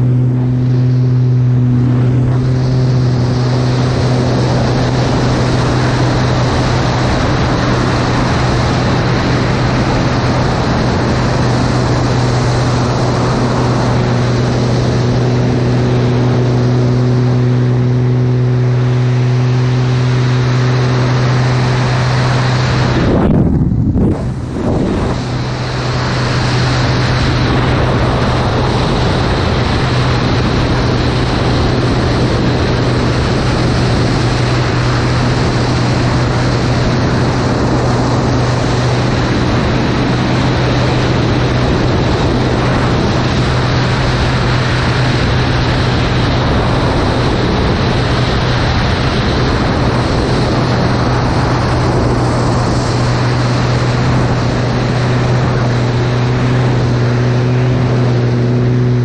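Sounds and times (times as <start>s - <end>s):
air rushing over microphone: 0.0s - 59.0s
propeller plane engine droning: 0.0s - 59.0s.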